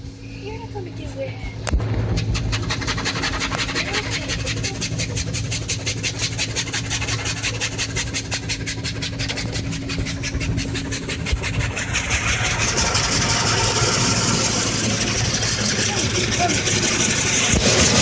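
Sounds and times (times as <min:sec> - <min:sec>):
steady low hum: 0:00.0 - 0:18.0
car wash brushes swishing: 0:00.8 - 0:18.0
rushing hiss: 0:01.8 - 0:18.0.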